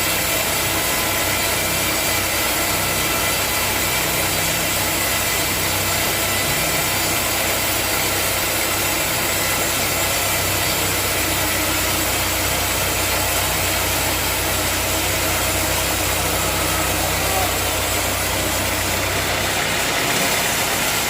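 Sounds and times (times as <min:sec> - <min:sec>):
sawmill engine droning: 0:00.0 - 0:21.0.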